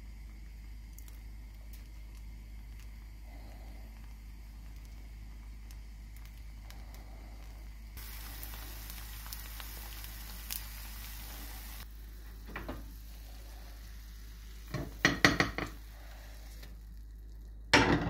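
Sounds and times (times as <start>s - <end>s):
eggs sizzling in frying pan: 0.0s - 18.0s.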